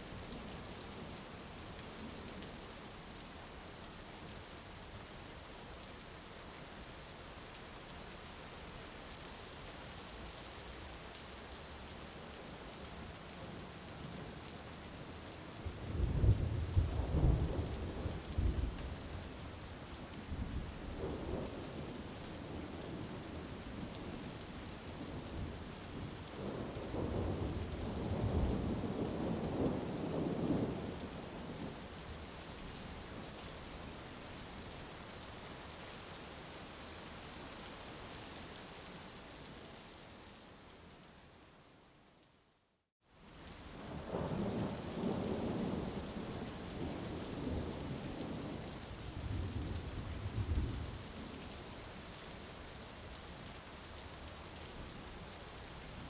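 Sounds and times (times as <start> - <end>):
heavy rain: 0.0 - 41.9, 43.0 - 56.0.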